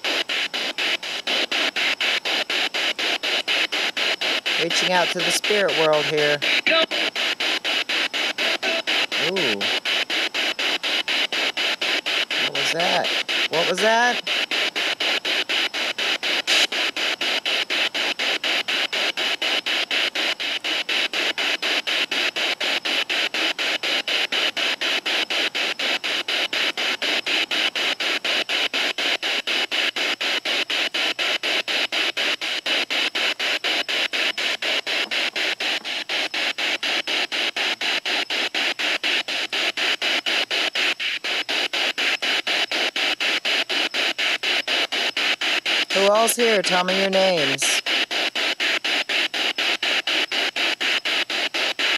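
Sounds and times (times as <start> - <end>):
radio static bursts: 0.0 - 51.9.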